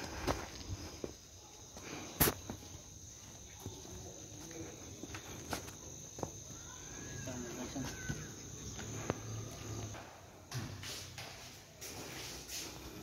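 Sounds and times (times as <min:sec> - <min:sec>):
footsteps on stone floor: 0:00.0 - 0:13.0.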